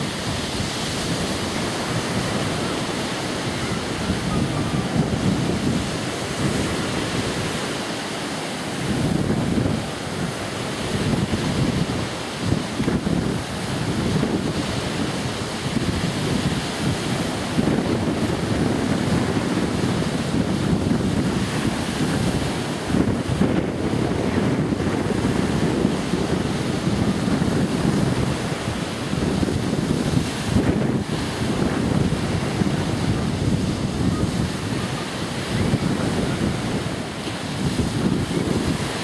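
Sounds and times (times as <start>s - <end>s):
waves on choppy water: 0.0s - 39.0s
wind buffeting microphone: 0.0s - 39.0s.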